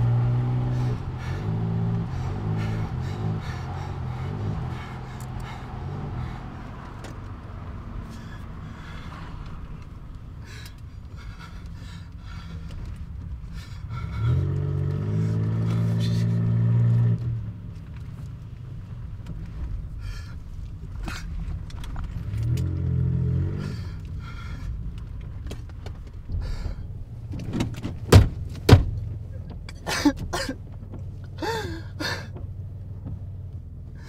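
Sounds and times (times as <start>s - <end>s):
car driving rumble inside cabin: 0.0s - 34.0s.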